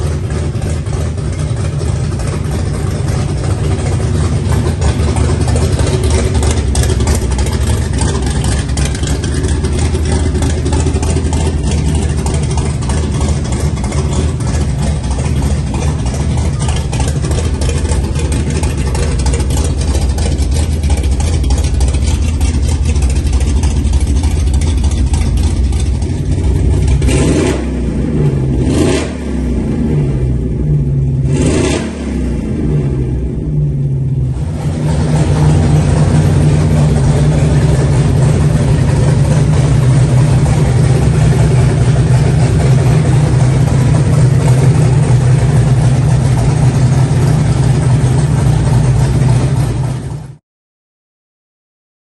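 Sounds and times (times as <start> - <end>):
car engine revving: 0.0 - 50.4.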